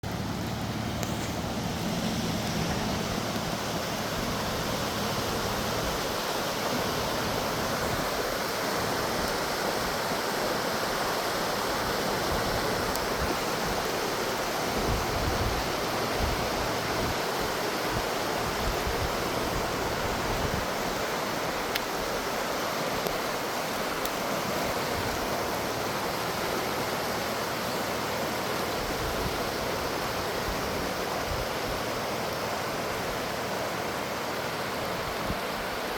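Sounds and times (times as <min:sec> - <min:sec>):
water rushing: 0:00.0 - 0:35.9.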